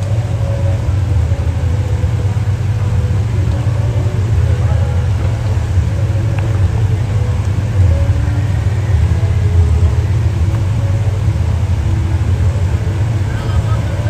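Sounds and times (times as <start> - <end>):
off-road vehicle engine rumble: 0.0 - 14.0.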